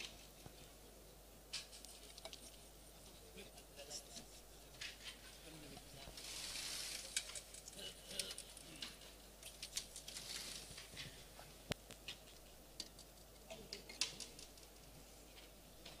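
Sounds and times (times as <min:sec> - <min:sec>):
soft hiss: 0:00.0 - 0:16.0
faint clicks and rustles: 0:01.5 - 0:16.0.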